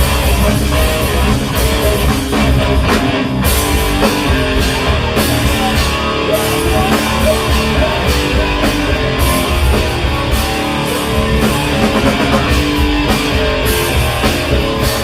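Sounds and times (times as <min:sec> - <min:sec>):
drum kit beat: 0:00.0 - 0:15.0
electric guitar: 0:00.0 - 0:15.0.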